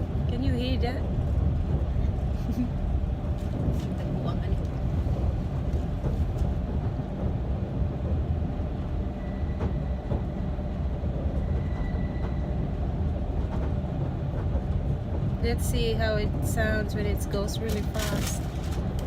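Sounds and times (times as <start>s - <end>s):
train carriage rumbling and rattling: 0.0s - 19.0s.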